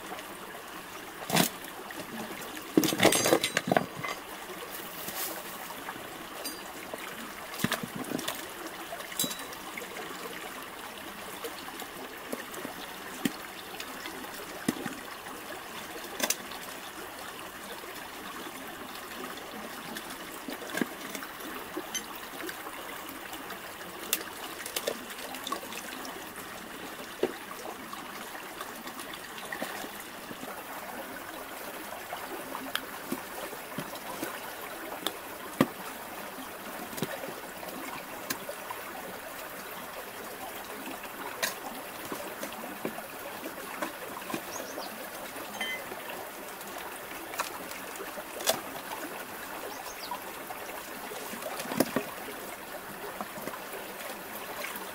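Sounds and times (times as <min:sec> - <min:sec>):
creek water trickling: 0:00.0 - 0:54.9.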